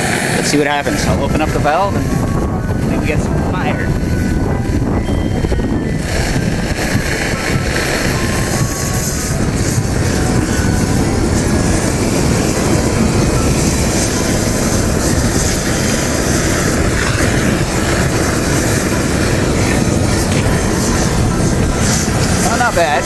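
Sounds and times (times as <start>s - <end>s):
burner flame roaring: 0.0s - 23.0s.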